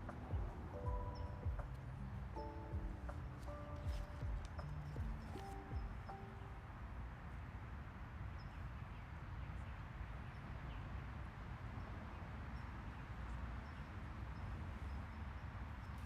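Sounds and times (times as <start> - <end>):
birds chirping: 0.0 - 16.0
wind rumble on microphone: 0.0 - 16.0.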